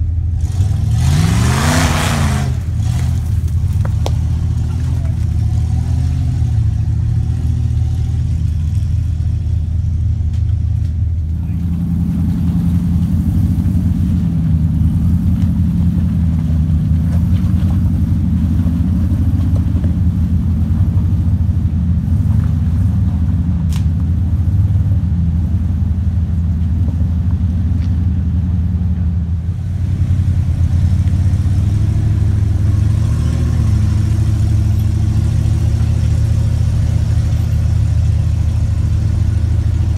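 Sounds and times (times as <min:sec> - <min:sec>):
off-road engines under load: 0:00.0 - 0:39.9.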